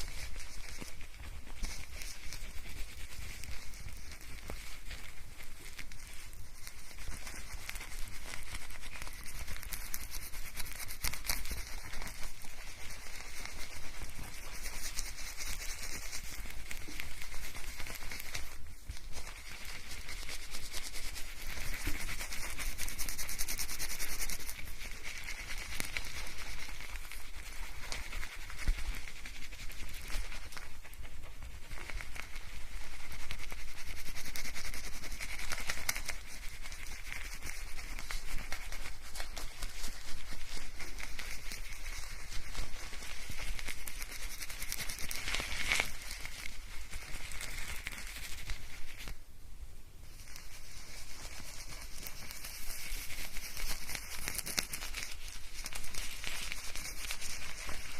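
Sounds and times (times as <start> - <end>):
fingers scrubbing lathered hair: 0.0 - 49.1.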